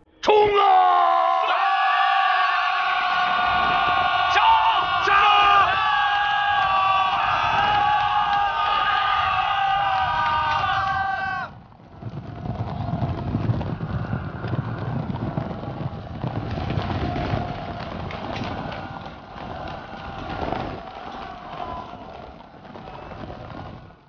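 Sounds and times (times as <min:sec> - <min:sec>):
horses galloping: 0:02.2 - 0:24.0.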